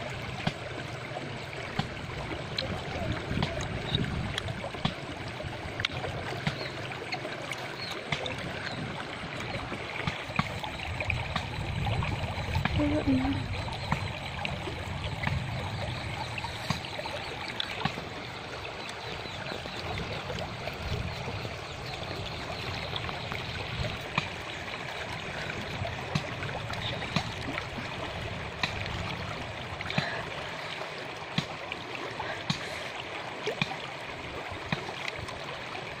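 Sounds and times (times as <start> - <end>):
shallow river babbling over rocks: 0.0 - 36.0.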